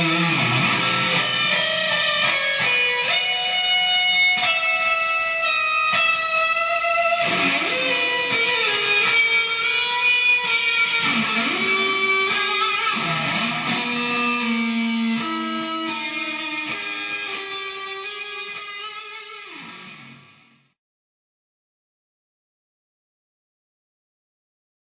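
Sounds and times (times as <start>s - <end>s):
electric guitar ringing notes: 0.0s - 20.6s.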